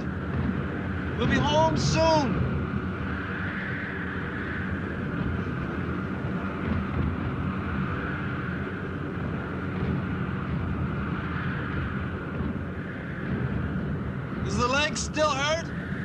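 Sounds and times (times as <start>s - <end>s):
aircraft engines droning: 0.0s - 16.0s.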